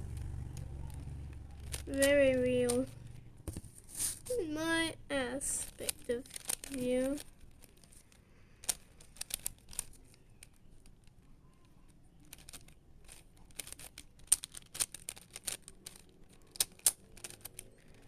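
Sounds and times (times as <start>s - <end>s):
puzzle cube clicking: 0.2s - 3.2s, 5.5s - 11.2s, 11.8s - 18.0s.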